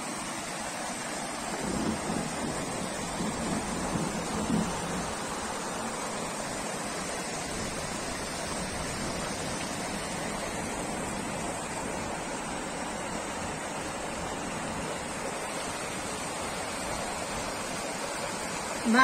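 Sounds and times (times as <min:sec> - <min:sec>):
floodwater rushing down street: 0:00.0 - 0:19.0.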